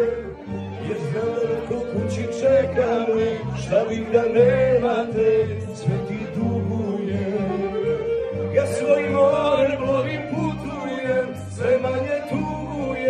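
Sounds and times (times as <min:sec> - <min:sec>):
instrumental backing music: 0:00.0 - 0:13.0
man singing into a microphone: 0:00.0 - 0:13.0.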